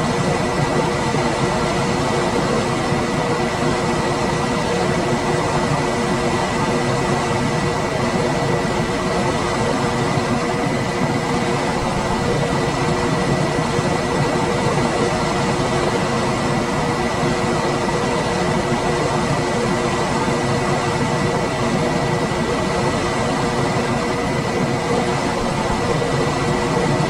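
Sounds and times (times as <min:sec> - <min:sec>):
air conditioner running: 0:00.0 - 0:27.0.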